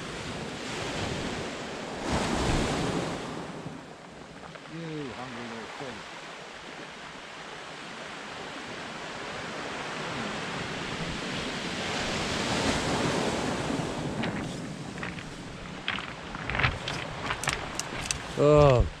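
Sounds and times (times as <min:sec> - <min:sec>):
surf breaking on beach: 0:00.0 - 0:03.6, 0:04.6 - 0:06.2, 0:07.8 - 0:19.0.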